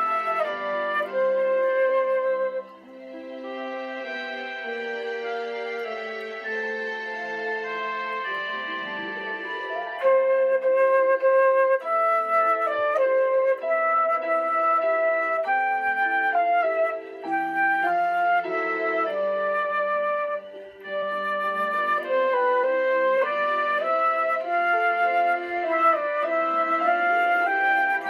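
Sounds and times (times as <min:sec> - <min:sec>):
electronic keyboard flute melody: 0:00.0 - 0:28.0.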